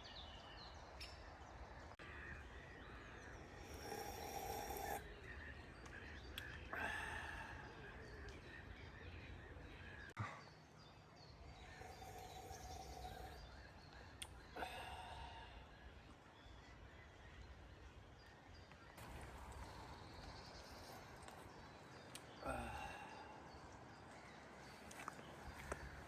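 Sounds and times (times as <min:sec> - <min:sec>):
bird calls: 0:00.0 - 0:26.0.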